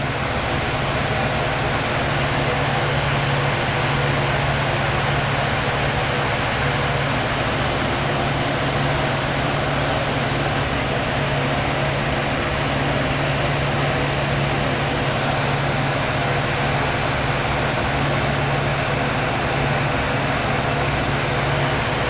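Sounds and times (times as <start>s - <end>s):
constant low hum: 0.0s - 22.0s
faint high ticks: 0.8s - 21.2s.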